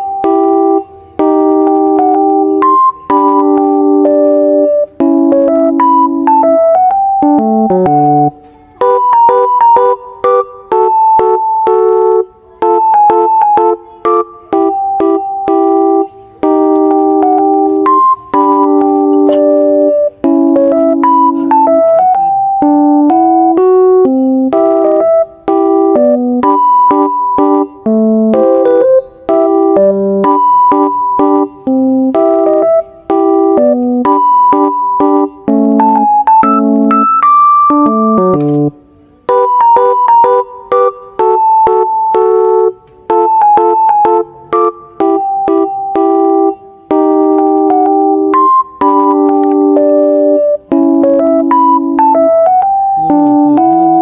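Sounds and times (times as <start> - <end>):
piano keyboard melody: 0.0 - 54.0.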